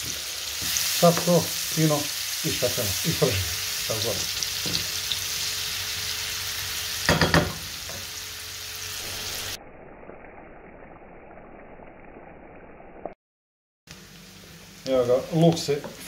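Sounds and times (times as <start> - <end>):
onion sizzling in hot oil: 0.0 - 13.2, 13.9 - 16.0.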